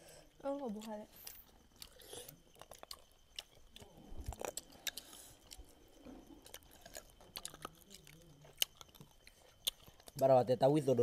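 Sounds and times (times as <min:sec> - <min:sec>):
people chewing and eating: 0:00.0 - 0:11.0.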